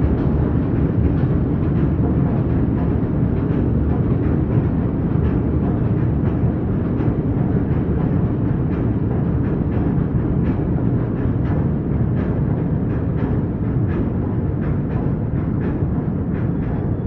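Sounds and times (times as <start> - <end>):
faint train clatter: 0.0 - 17.0
train rumbling along tracks: 0.0 - 17.0.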